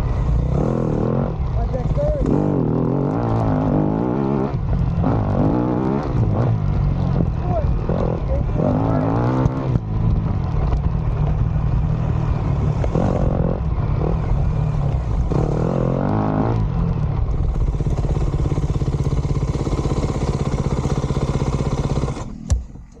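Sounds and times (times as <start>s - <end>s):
dirt bike engine revving: 0.0s - 10.3s, 11.4s - 22.5s.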